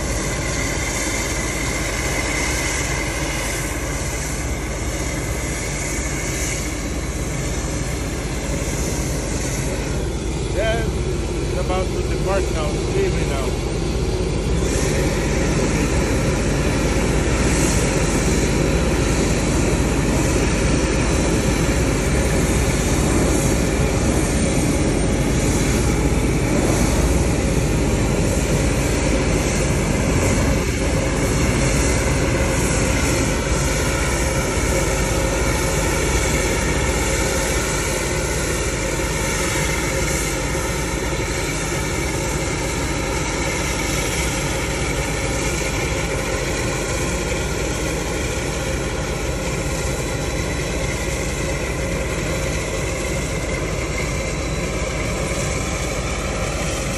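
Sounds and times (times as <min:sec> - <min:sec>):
jet turbine whine: 0:00.0 - 0:56.9.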